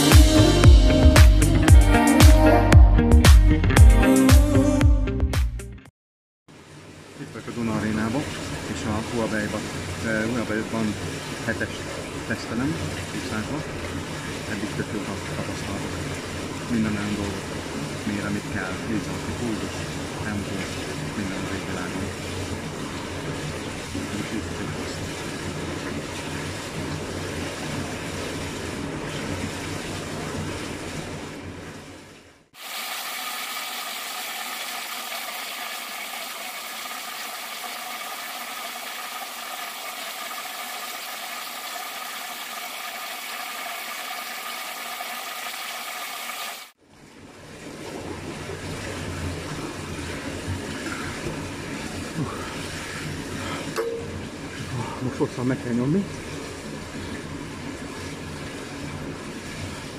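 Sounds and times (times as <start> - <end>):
pool water sounds: 0.0 - 0.6, 6.5 - 59.9.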